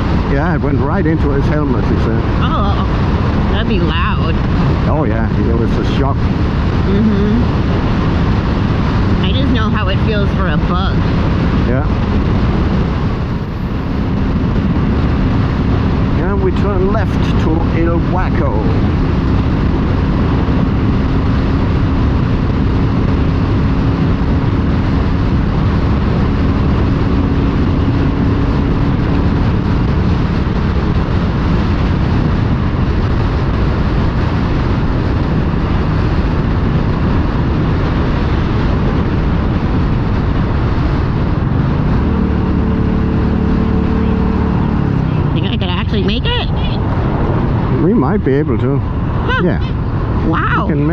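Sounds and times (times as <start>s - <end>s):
motorcycle engine running: 0.0s - 50.9s
wind noise on microphone: 0.0s - 50.9s.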